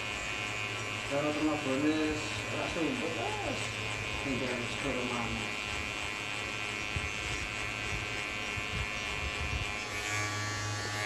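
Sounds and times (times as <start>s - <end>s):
electric hair clipper buzzing: 0.0s - 11.0s.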